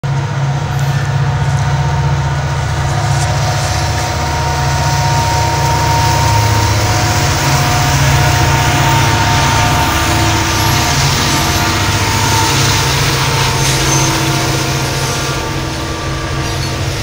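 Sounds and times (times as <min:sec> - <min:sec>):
diesel locomotive drone: 0:00.0 - 0:17.0.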